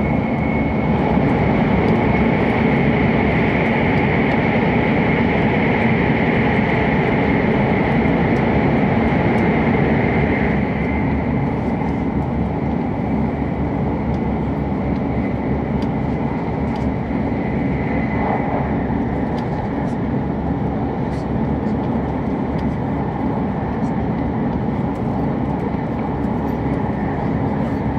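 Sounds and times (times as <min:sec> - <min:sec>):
train rushing and rumbling: 0:00.0 - 0:27.9.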